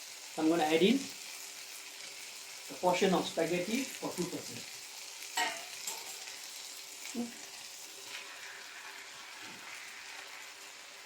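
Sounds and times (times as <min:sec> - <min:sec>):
food sizzling in a hot pan: 0:00.0 - 0:11.0
stirring pan noises: 0:00.0 - 0:11.0.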